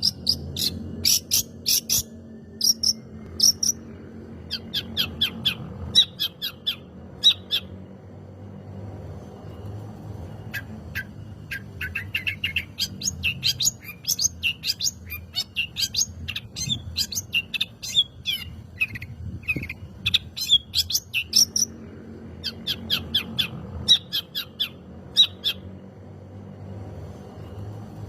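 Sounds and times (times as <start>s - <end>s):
bird chirping and trilling: 0.0s - 8.5s, 10.2s - 26.0s.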